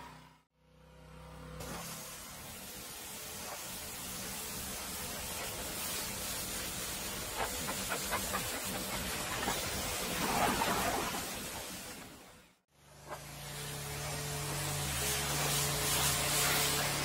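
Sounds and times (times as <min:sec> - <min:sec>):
pressure washer spraying water: 0:01.6 - 0:17.0.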